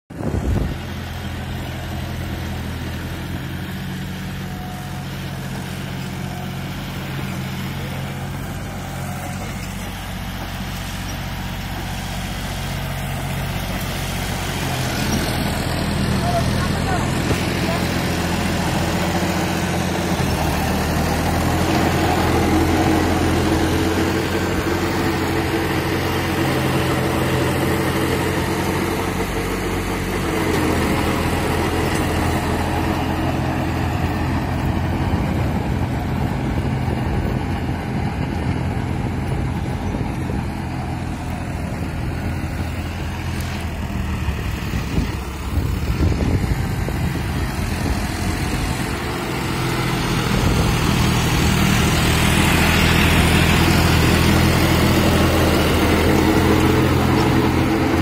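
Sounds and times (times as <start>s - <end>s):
tractor diesel engine under load: 0.1s - 58.0s.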